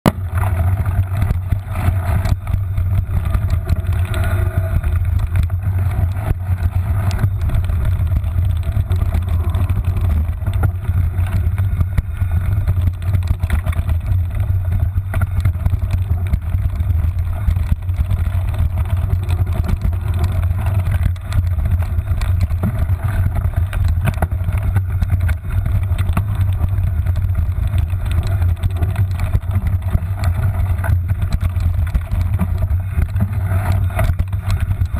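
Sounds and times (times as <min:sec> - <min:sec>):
low rumble of wind and vibration: 0:00.0 - 0:34.9
bike knocks and rattles on bumps: 0:00.1 - 0:34.9.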